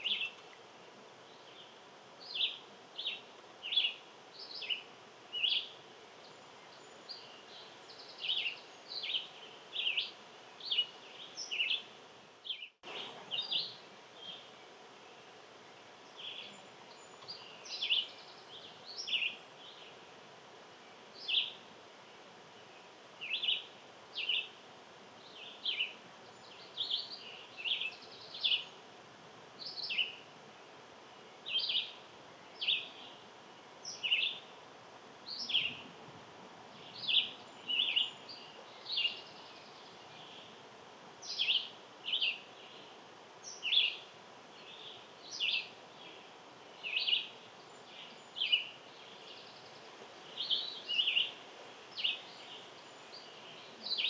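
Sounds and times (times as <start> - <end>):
small birds chirping: 0.0 - 36.0, 36.6 - 54.0
faint outdoor background: 0.0 - 54.0.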